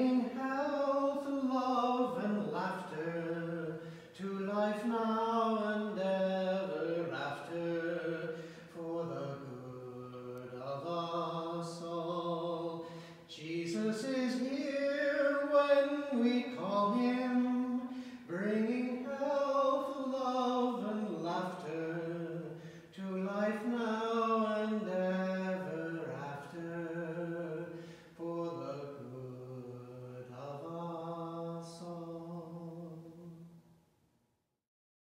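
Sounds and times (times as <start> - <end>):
man singing hymn: 0.0 - 33.4.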